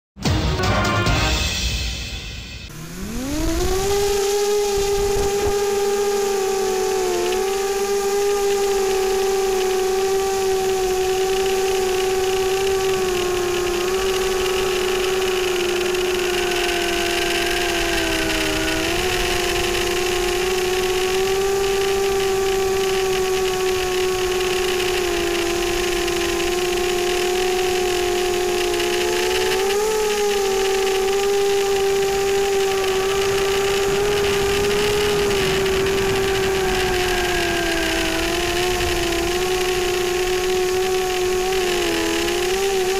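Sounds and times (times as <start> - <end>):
drone motors whining: 2.6 - 42.9.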